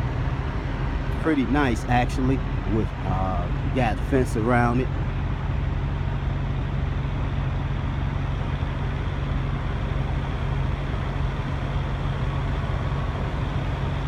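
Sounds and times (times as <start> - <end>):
constant low hum: 0.0 - 14.0
engine drone: 0.0 - 14.0
road noise: 0.0 - 14.0.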